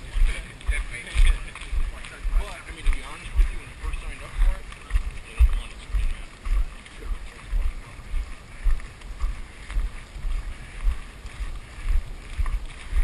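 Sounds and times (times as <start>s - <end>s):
running strides thudding: 0.0s - 13.0s
wind noise on microphone: 0.0s - 13.0s.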